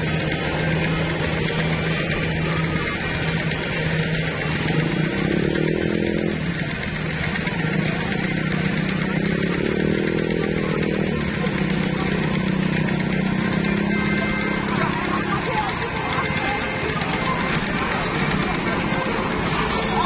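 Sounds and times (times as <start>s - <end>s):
bus diesel engine droning: 0.0s - 20.0s
engine revving: 0.0s - 20.0s.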